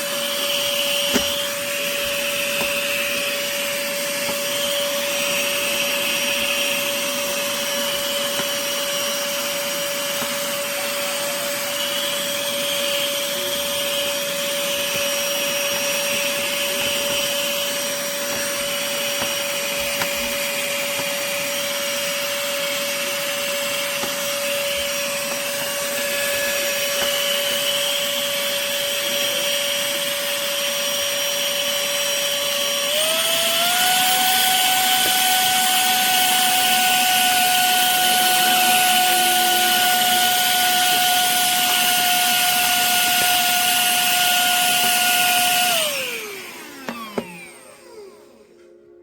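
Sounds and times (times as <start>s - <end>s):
handheld vacuum cleaner whine: 0.0s - 49.0s.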